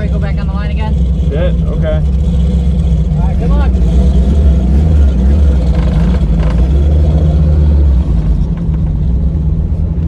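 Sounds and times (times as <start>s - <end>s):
car engine droning at low revs: 0.0s - 10.0s.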